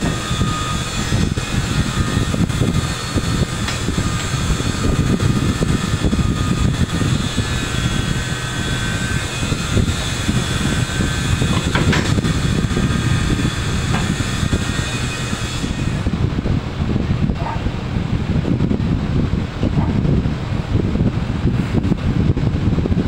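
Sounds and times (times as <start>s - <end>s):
large industrial fan running: 0.0s - 23.0s.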